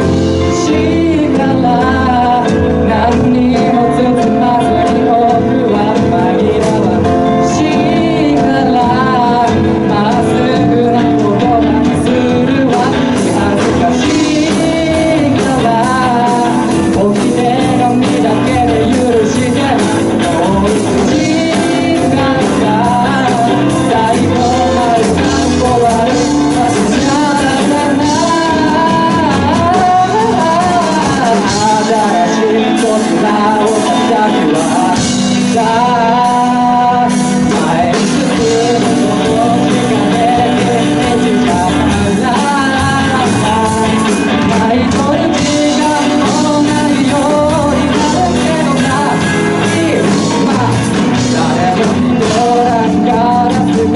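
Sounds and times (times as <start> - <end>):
keyboard: 0.0 - 53.9
live pop band: 0.0 - 53.9
person singing: 0.0 - 53.9.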